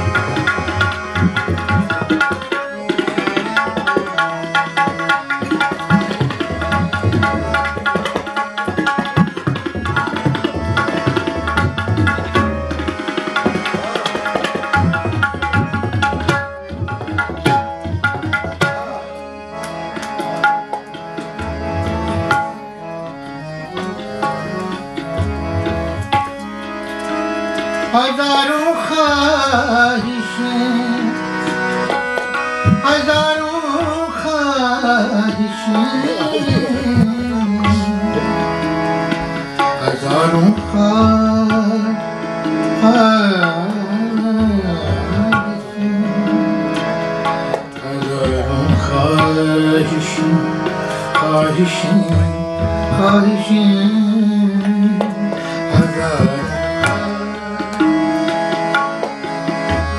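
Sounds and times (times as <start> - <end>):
harmonium chords: 0.0 - 59.9
tabla drumming: 0.0 - 59.9.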